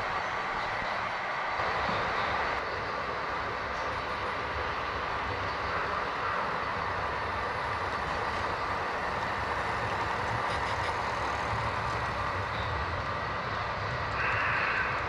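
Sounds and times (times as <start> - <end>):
model train rumbling: 0.0 - 15.0.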